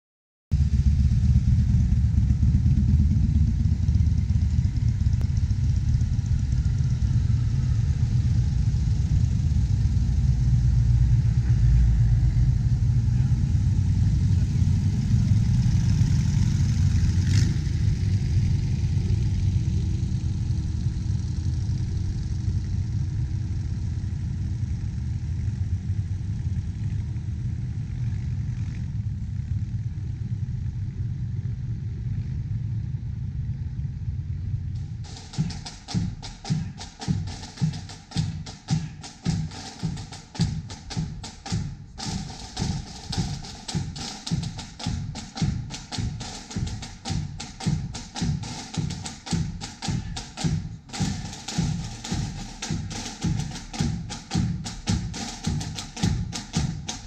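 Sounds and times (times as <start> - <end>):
motorcycle engines rumbling: 0.6 - 57.0.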